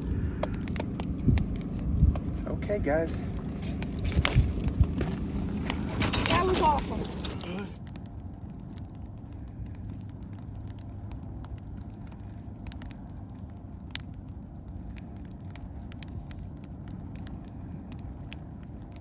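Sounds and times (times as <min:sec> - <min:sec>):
fire crackling: 0:00.0 - 0:19.0
low rumble: 0:00.0 - 0:19.0.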